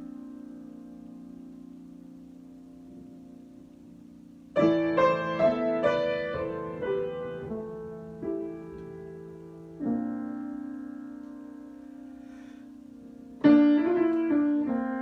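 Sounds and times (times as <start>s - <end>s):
solo piano: 0.0s - 15.0s.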